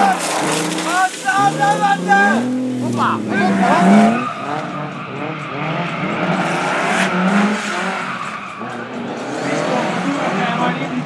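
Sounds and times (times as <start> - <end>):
racing car engines revving: 0.0 - 11.0
tyres skidding: 0.0 - 11.0.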